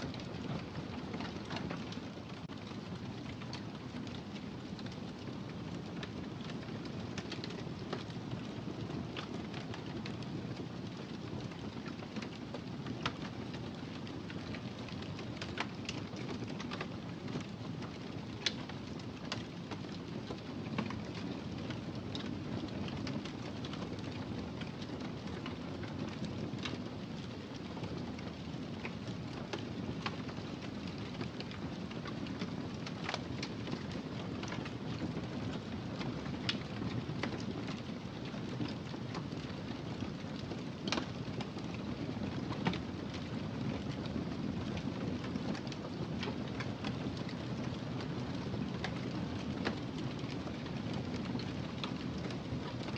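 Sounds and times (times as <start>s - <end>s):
wood fire rumbling: 0.0s - 52.9s
fire crackling and popping: 0.1s - 52.9s.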